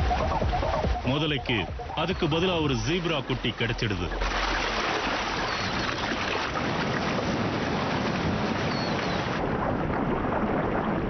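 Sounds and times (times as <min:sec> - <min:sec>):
animals splashing through river water: 0:00.0 - 0:09.4.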